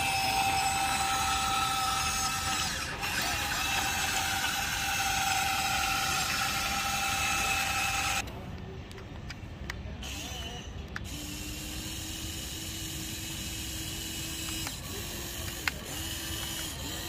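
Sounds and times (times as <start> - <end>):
electric motor whine: 0.0 - 8.2, 10.1 - 17.0.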